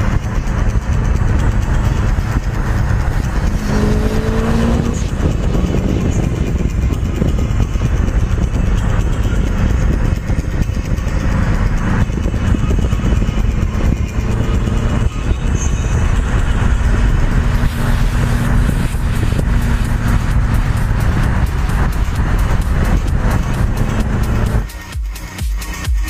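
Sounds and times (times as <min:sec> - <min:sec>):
tyre and wind noise: 0:00.0 - 0:24.7
car engine drone: 0:00.0 - 0:26.0.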